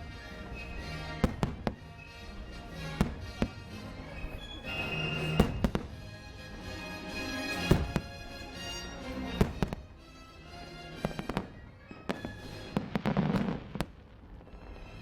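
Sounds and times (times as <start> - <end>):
show music: 0.0 - 13.0
fireworks bangs and crackles: 0.0 - 15.0.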